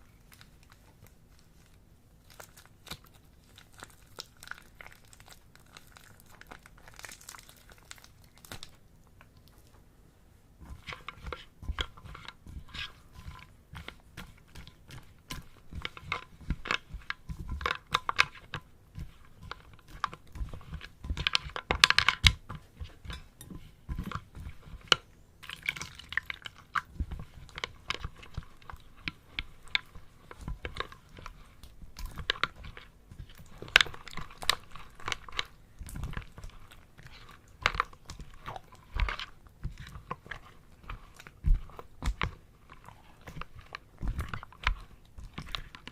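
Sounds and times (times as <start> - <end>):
crisp crunching and crackling: 0.0 - 9.7, 10.7 - 45.9.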